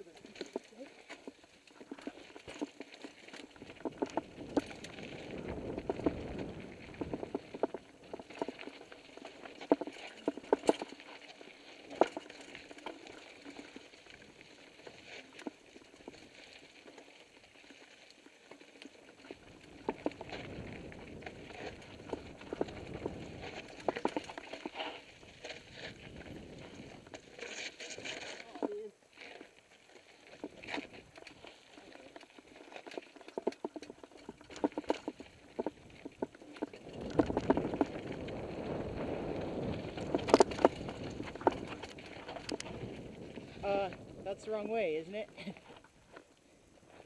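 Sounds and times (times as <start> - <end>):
bike rattling over stones: 0.0 - 47.0.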